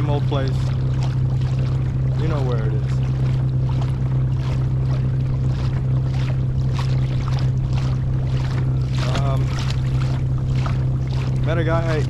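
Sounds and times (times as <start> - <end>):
boat motor humming: 0.0 - 12.0
water splashing against hull: 0.0 - 12.0.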